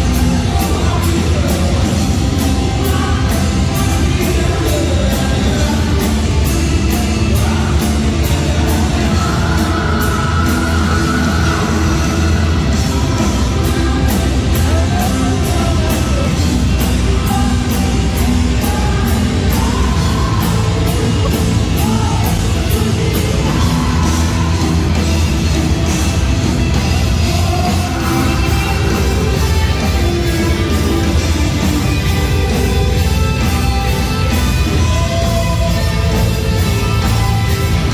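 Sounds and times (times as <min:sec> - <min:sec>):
bass guitar: 0:00.0 - 0:37.9
electric guitars: 0:00.0 - 0:37.9
person singing: 0:00.0 - 0:37.9
steady drumbeat: 0:00.0 - 0:37.9.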